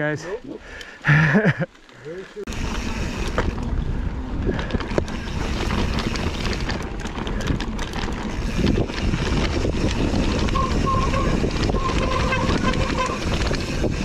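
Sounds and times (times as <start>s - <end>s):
bike tyre noise: 0.2s - 14.0s
bike clicks and rattles: 0.6s - 14.0s
wind on microphone: 2.8s - 14.0s.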